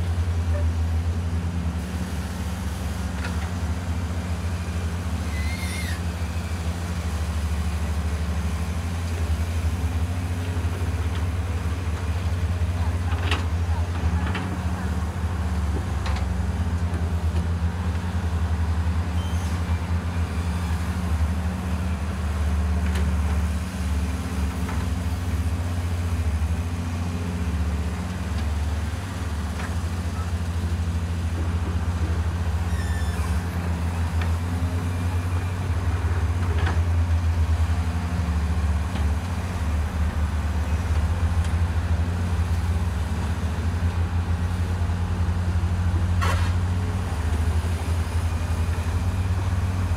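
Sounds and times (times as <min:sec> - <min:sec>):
excavator diesel engines droning: 0:00.0 - 0:49.9.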